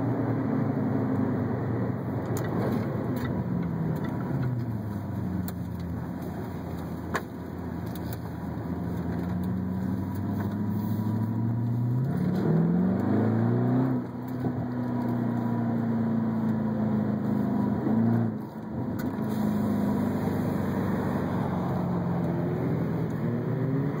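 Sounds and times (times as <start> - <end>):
car engine heard from cabin: 0.0 - 24.0.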